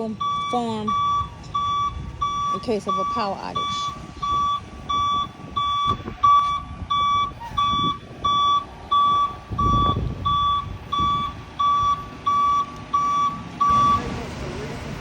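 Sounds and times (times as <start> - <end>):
low truck engine rumble: 0.0 - 15.0
truck reversing alarm beeping: 0.0 - 15.0.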